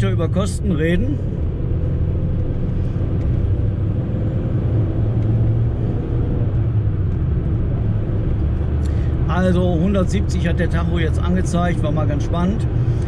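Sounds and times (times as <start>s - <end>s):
car engine hum: 0.0s - 13.0s
tyre and road rumble: 0.0s - 13.0s.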